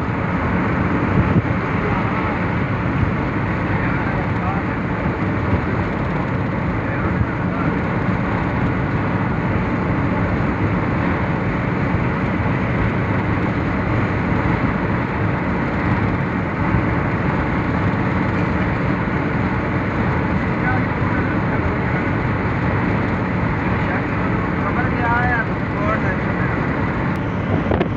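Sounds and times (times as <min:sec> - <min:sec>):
road and engine noise in car cabin: 0:00.0 - 0:27.9.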